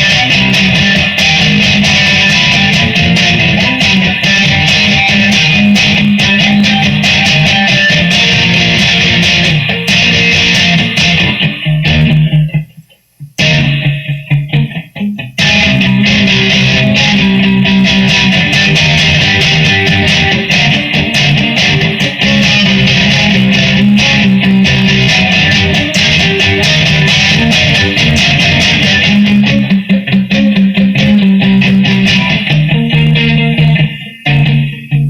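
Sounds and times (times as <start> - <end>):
guitar strumming: 0.0 - 35.0.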